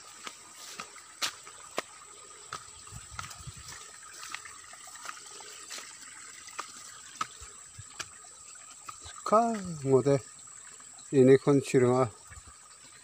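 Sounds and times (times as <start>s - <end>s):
stream trickling over rocks: 0.0s - 13.0s.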